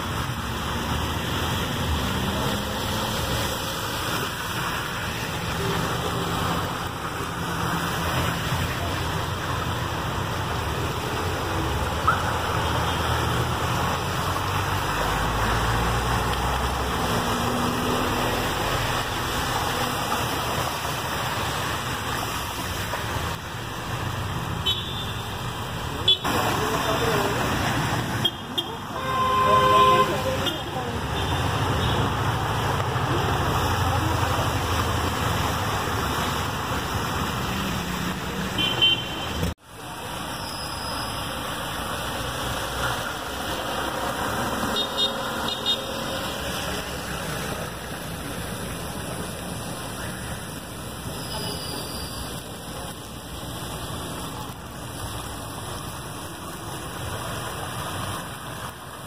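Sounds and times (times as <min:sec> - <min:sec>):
tyres pushing through water: 0:00.0 - 0:59.0.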